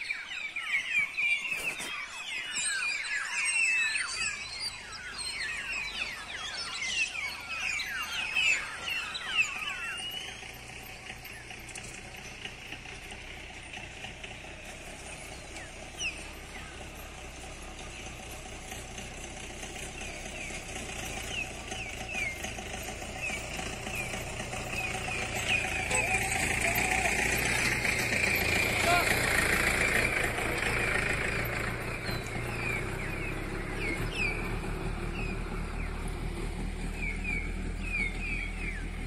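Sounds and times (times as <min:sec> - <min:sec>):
flock of birds chirping: 0:00.0 - 0:39.0.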